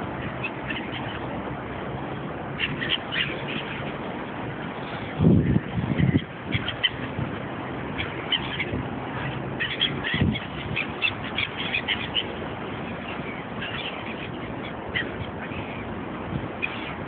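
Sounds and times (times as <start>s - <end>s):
gulls squawking: 0.0s - 17.0s.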